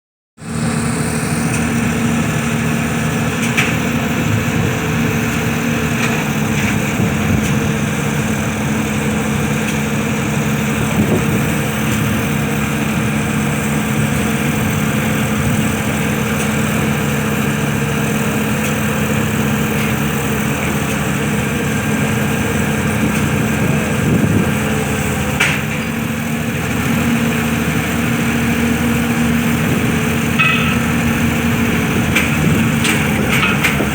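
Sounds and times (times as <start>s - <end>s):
pile driver engine running: 0.4s - 33.9s.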